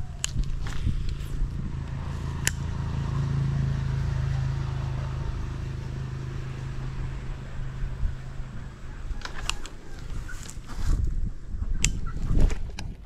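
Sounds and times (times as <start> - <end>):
motor engine humming: 0.0 - 10.7.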